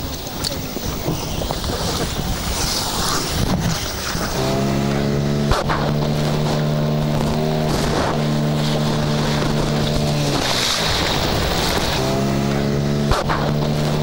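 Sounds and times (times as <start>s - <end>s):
boat engine droning: 0.0s - 14.0s
sea noise: 0.0s - 14.0s
wind: 0.0s - 14.0s.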